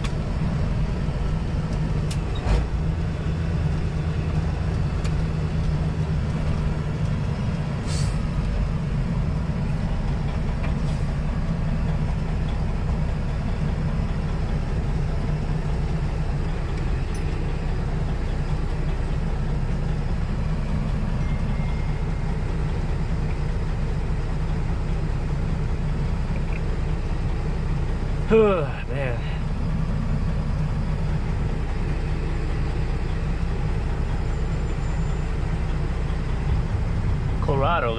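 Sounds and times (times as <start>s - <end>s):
diesel truck engine droning: 0.0s - 37.9s.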